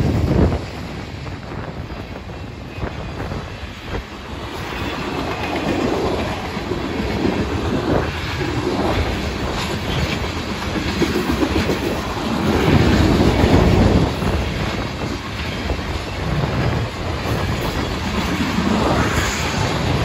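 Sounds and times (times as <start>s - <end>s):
freight train wheels clattering: 0.0s - 20.0s.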